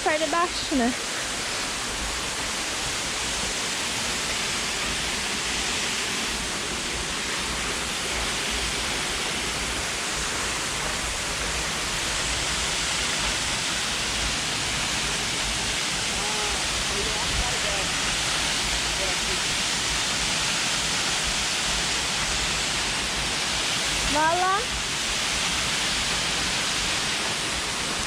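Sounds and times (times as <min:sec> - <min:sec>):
waterfall rushing onto rock: 0:00.0 - 0:28.0.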